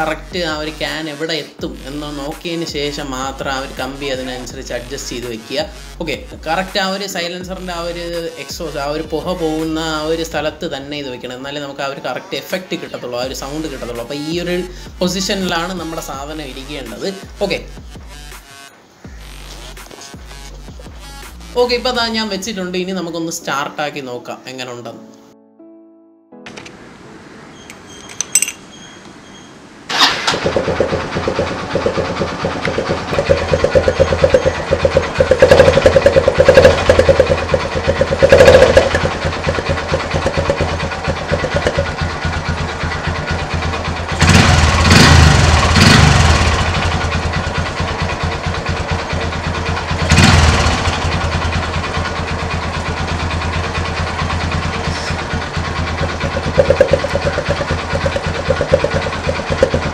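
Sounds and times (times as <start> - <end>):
motorcycle engine idling and revving: 0.0 - 1.0, 1.6 - 10.8, 13.3 - 18.4, 19.1 - 22.7, 29.9 - 59.9.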